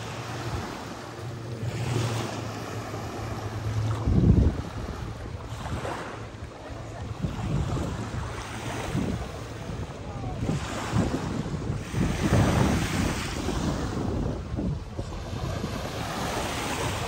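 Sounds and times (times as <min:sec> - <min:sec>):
sea waves washing ashore: 0:00.0 - 0:17.0
wind gusting on microphone: 0:00.0 - 0:17.0.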